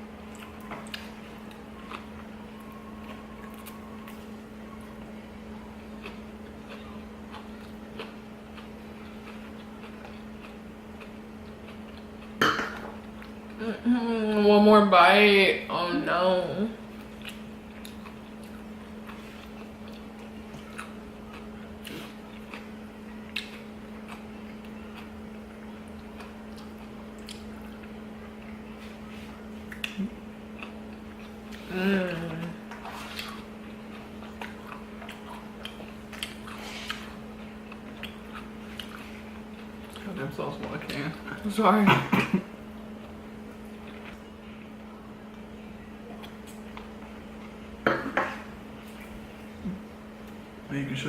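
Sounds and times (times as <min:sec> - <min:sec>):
low room hum: 0:00.0 - 0:51.0
person chewing food: 0:00.2 - 0:13.6, 0:16.9 - 0:40.1, 0:42.7 - 0:45.5, 0:46.1 - 0:47.7.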